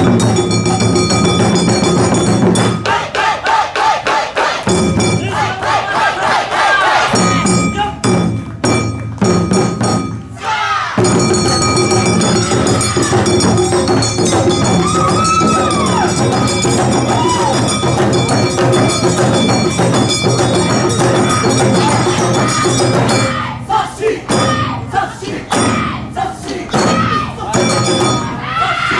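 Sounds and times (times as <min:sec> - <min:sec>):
loud dance music with percussion: 0:00.0 - 0:28.9.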